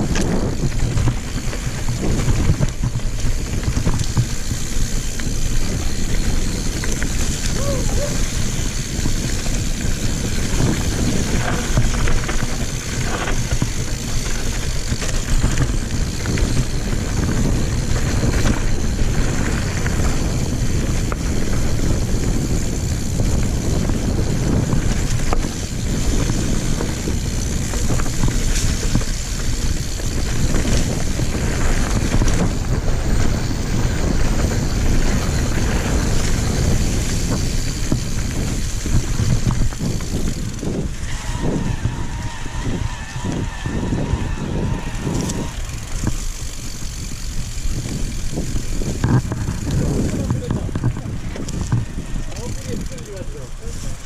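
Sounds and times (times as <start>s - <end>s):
bike knocks and rattles: 0.0s - 41.0s, 43.6s - 54.0s
wind buffeting microphone: 0.0s - 54.0s.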